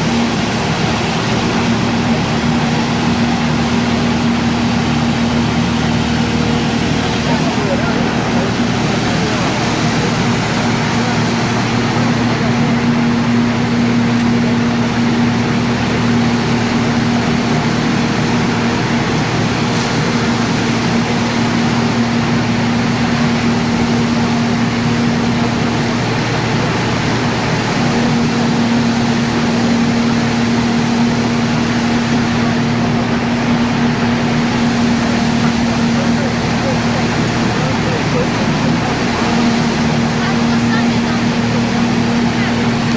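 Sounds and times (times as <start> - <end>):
straw crusher running: 0.0 - 42.9.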